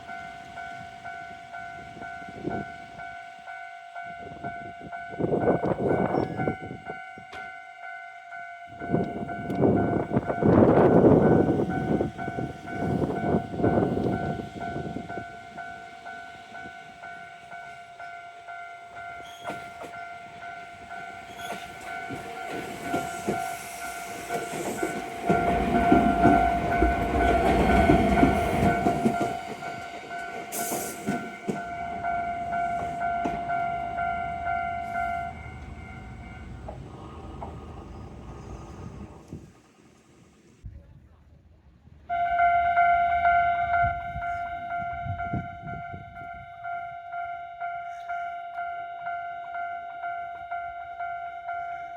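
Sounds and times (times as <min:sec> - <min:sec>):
level crossing bell ringing: 0:00.0 - 0:36.8, 0:42.1 - 0:51.9
train rumbling: 0:00.0 - 0:51.9.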